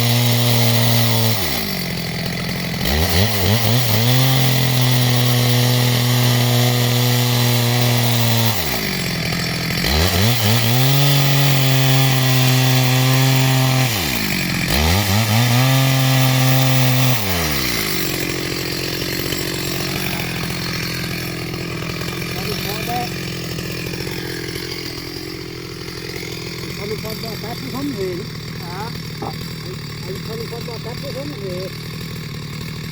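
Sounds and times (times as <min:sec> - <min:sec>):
chainsaw cutting timber: 0:00.0 - 0:32.9.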